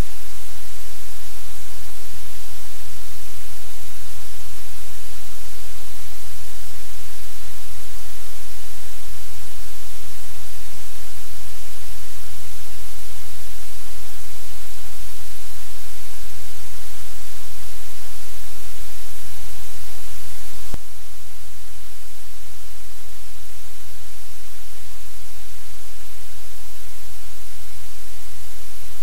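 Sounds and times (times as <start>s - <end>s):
low electrical hum: 0.0s - 29.0s
steady hiss and static: 0.0s - 29.0s.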